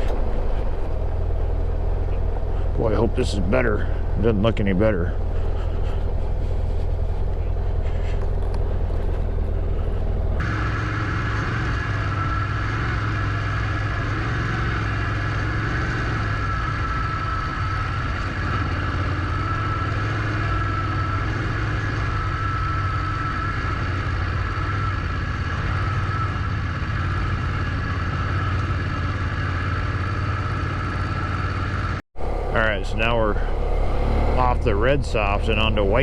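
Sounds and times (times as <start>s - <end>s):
motorcycle engine running: 0.0s - 36.0s
steady whine: 0.0s - 36.0s.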